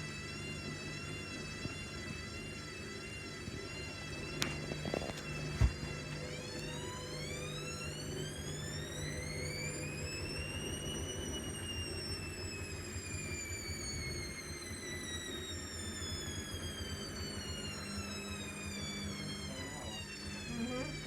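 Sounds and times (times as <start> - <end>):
washing machine motor whine: 0.0 - 21.0.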